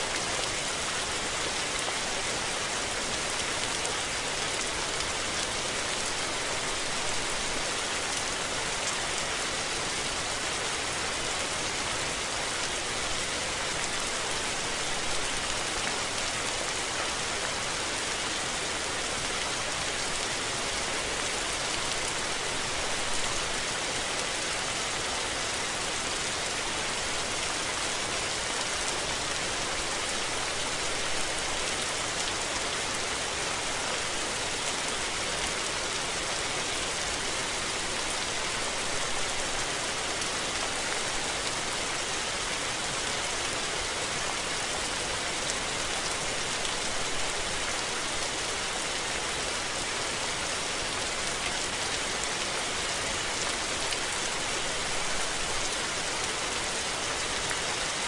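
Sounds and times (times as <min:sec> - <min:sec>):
rain falling on surfaces: 0:00.0 - 0:58.0.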